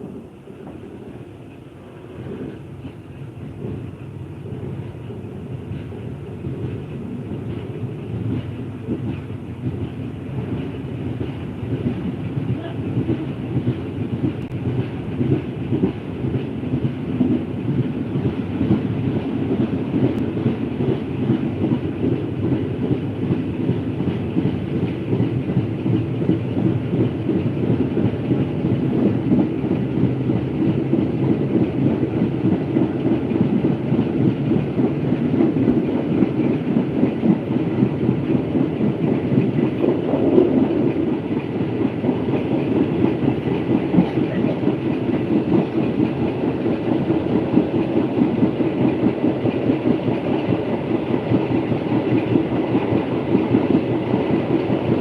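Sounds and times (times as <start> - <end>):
train rumble: 0.0 - 55.0
wheels clattering on rail: 0.0 - 55.0.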